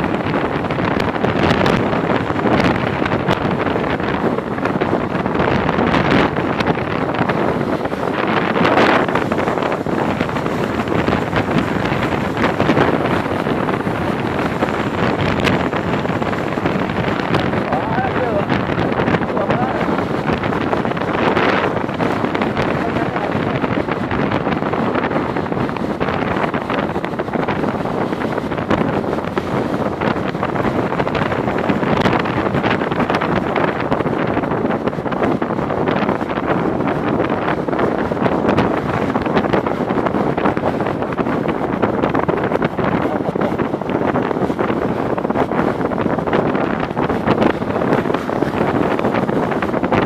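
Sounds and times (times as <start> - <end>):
crackly rushing noise: 0.0 - 50.0
raindrops striking near microphone: 0.0 - 50.0
wind noise on microphone: 0.0 - 50.0.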